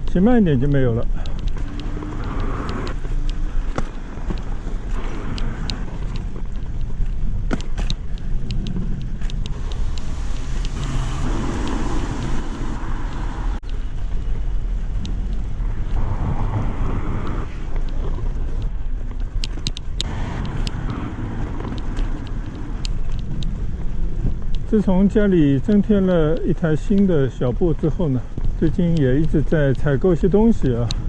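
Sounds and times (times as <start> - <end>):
bicycle clicks and rattles: 0.0 - 16.0, 17.0 - 31.0
road noise: 0.0 - 31.0
wind rumbling on microphone: 0.0 - 31.0.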